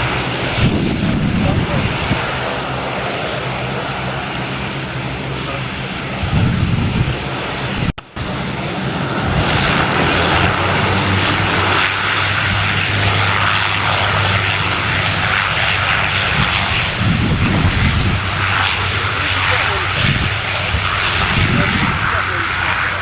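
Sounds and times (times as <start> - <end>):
turboprop engines running: 0.0 - 23.0.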